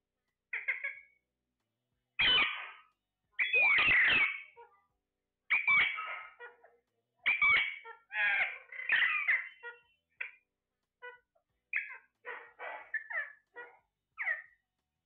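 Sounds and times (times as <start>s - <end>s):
parakeets calling: 0.5s - 1.2s, 2.2s - 4.8s, 5.5s - 14.6s.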